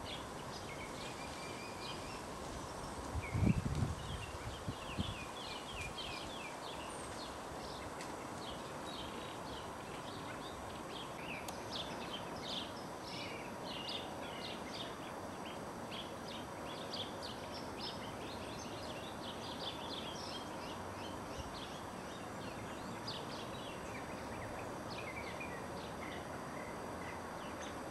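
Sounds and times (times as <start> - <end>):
constant background hiss: 0.0 - 27.9.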